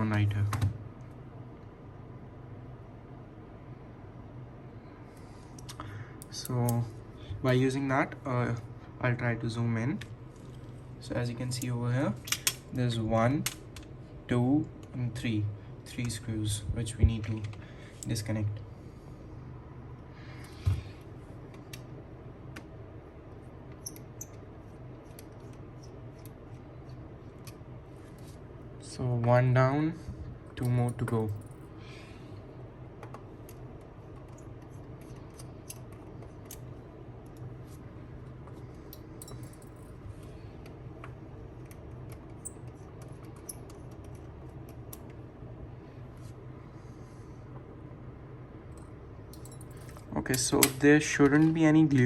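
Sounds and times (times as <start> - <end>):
low background hum: 0.0 - 52.0.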